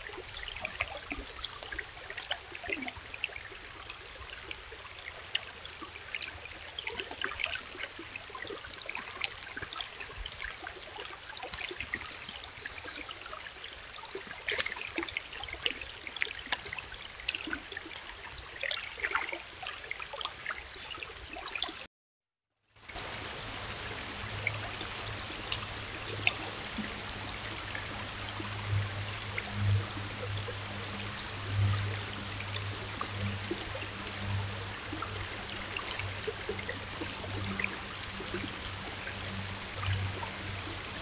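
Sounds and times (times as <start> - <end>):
stream babbling over stones: 0.0 - 21.9, 22.8 - 41.0.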